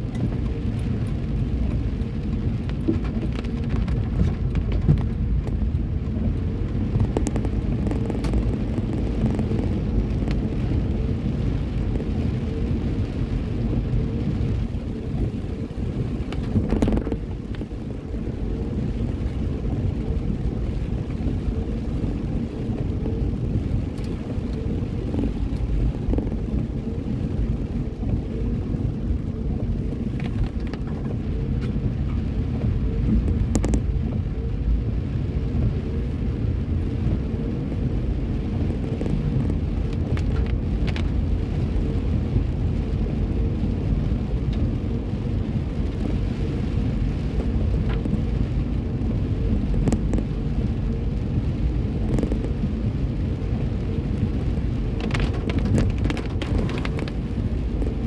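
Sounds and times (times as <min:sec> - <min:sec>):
car driving on wet pavement: 0:00.0 - 0:58.0.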